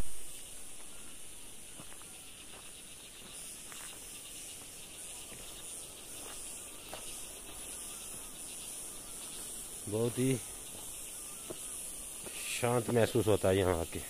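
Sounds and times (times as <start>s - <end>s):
forest insects chorus: 0.0s - 14.0s.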